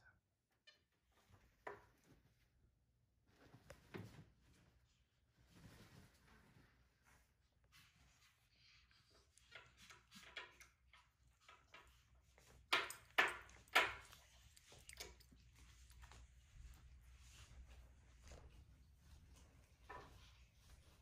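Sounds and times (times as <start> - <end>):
soft rustling: 1.2 - 12.7, 13.9 - 21.0.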